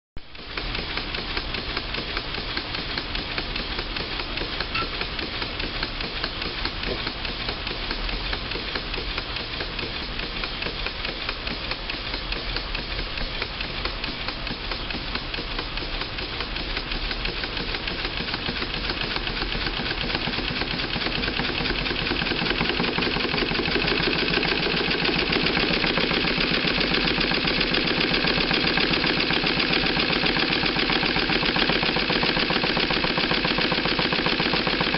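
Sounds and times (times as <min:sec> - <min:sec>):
model engine mechanical clatter: 0:00.4 - 0:34.9.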